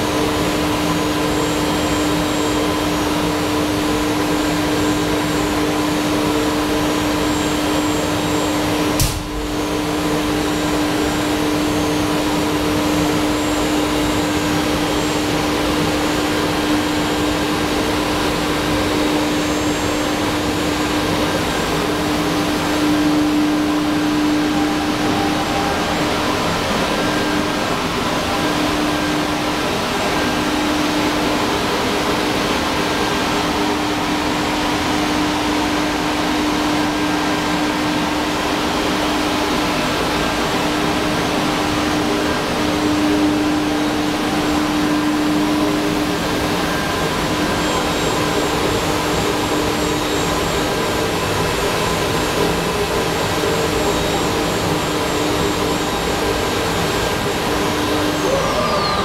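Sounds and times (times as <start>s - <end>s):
cnc machine and dust extraction hum: 0.0s - 59.0s.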